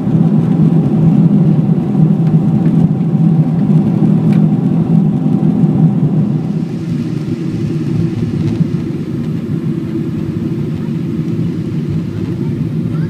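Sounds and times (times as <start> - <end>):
airliner engine drone: 0.0 - 13.0
rushing air: 0.0 - 13.0.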